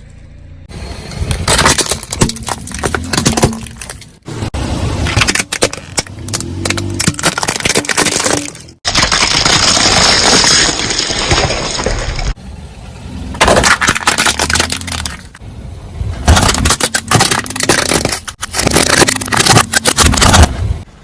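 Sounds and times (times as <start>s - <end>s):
car tyre crushing objects: 1.1s - 12.4s, 13.2s - 15.4s, 16.0s - 20.9s.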